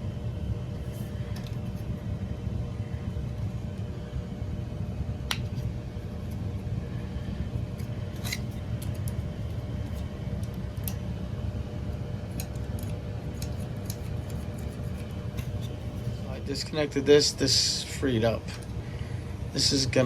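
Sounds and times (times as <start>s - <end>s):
low equipment hum: 0.0s - 20.0s.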